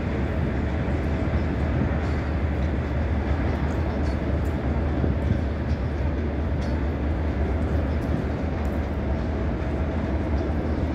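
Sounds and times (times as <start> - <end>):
diesel train engine drone: 0.0 - 10.9
train rolling noise: 0.0 - 10.9.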